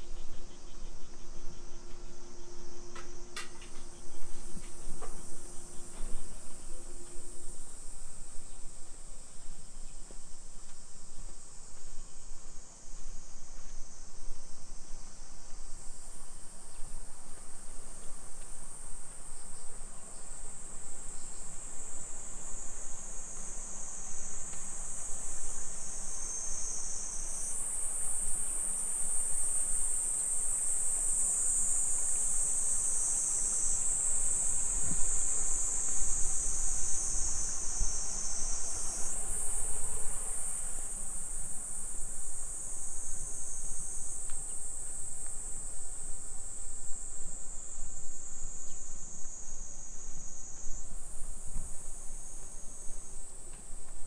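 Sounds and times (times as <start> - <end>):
faint low street rumble: 0.0 - 54.0
high-pitched insect chorus: 0.0 - 54.0.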